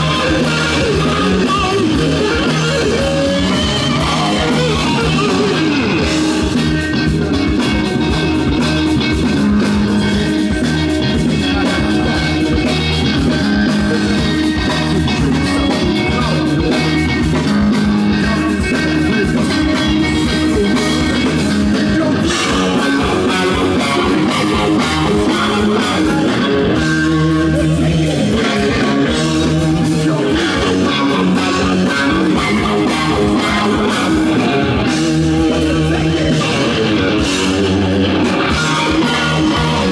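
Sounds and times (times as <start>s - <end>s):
bass guitar: 0.0s - 39.9s
drums: 0.0s - 39.9s
electric guitars: 0.0s - 39.9s.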